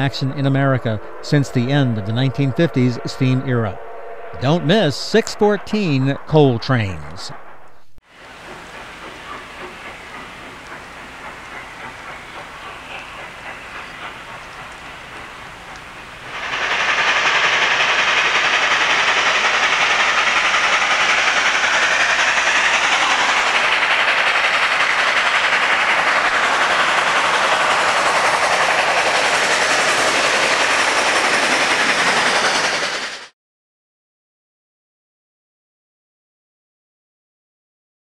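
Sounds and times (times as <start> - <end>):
steam locomotive exhaust rush: 0.0 - 7.2, 8.1 - 33.3.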